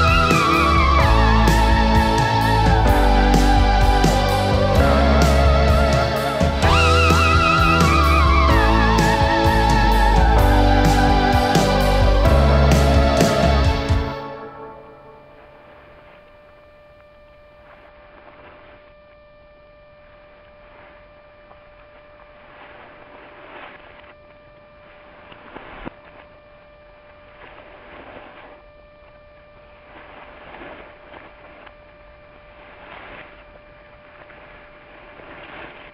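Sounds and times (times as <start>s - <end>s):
steady electrical hum: 0.0s - 35.9s.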